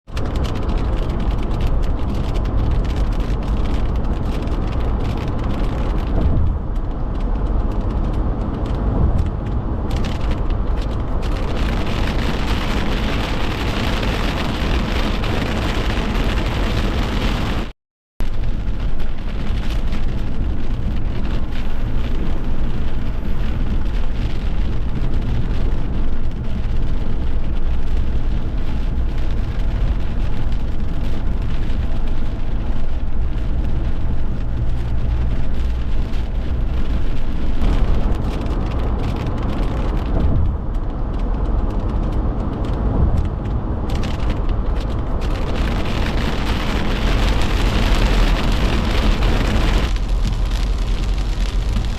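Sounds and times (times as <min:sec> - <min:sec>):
heavy rain: 0:00.1 - 0:51.9
wind rumbling on microphone: 0:00.1 - 0:51.9.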